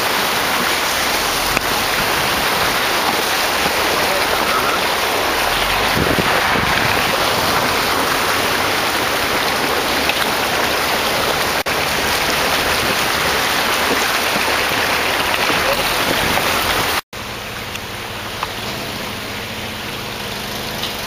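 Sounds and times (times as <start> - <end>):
tyres splashing through creek water: 0.0 - 21.0.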